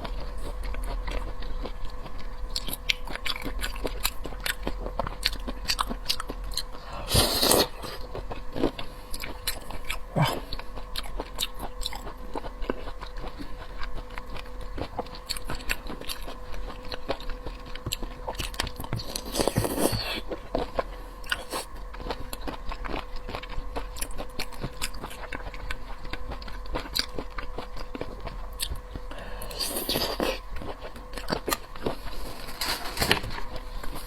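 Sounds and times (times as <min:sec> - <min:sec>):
chewing and biting prawns: 0:00.0 - 0:34.0
faint electrical hum: 0:00.0 - 0:34.0.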